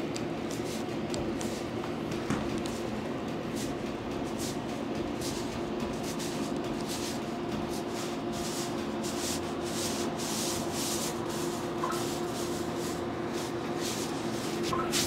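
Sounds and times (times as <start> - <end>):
steady background hum: 0.0 - 15.0
hands rubbing on skin: 0.5 - 1.7, 3.5 - 15.0.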